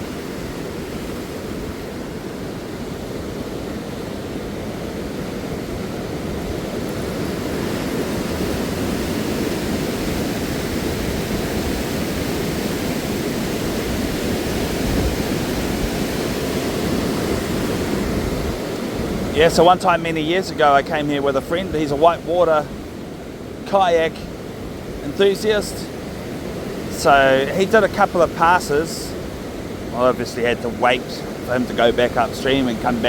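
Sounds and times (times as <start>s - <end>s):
rushing whitewater: 0.0s - 33.0s.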